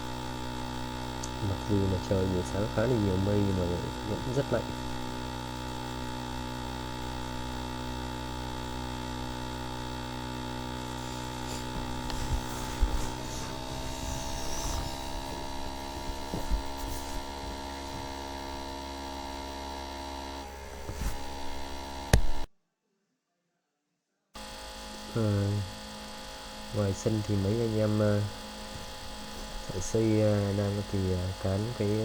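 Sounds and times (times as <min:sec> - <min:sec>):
electric sander humming: 0:00.0 - 0:22.5, 0:24.4 - 0:32.0.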